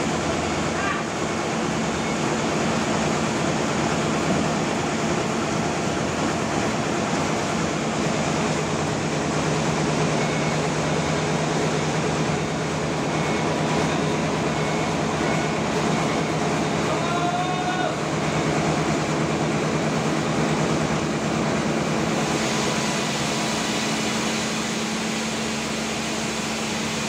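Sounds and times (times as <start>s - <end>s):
sawmill machine hum and hiss: 0.0s - 27.0s.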